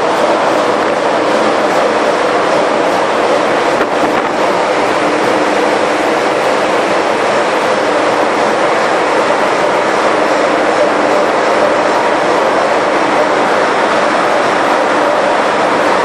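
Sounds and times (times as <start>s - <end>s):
engine-room machinery noise: 0.0s - 16.0s.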